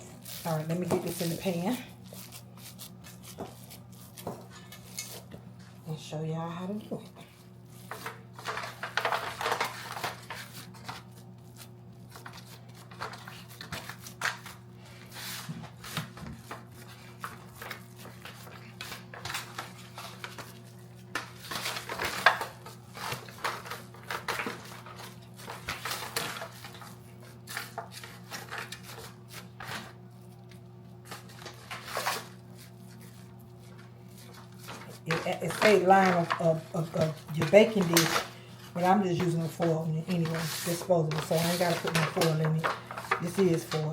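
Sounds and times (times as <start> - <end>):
aluminium foil pan crinkling: 0.0 - 5.3, 7.7 - 43.9.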